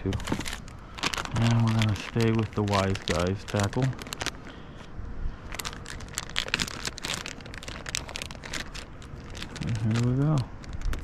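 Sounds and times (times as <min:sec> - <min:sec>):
fishing tackle crinkling and clicking: 0:00.0 - 0:04.6, 0:05.4 - 0:11.0.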